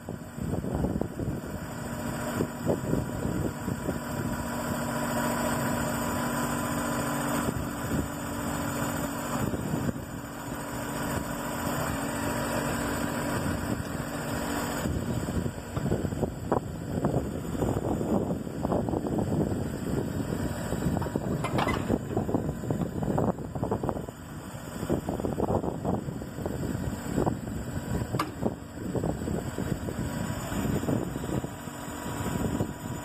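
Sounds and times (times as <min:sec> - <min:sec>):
wind buffeting microphone: 0:00.0 - 0:06.0, 0:06.8 - 0:33.0
tractor engine idling: 0:00.0 - 0:33.0.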